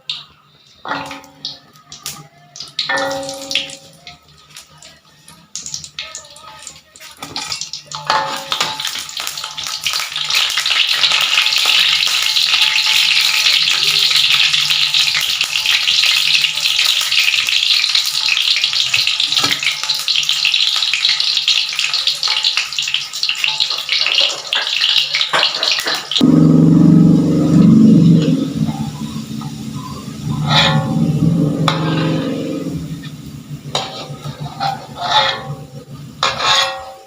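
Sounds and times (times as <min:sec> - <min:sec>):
food frying in hot oil: 0:00.0 - 0:37.0.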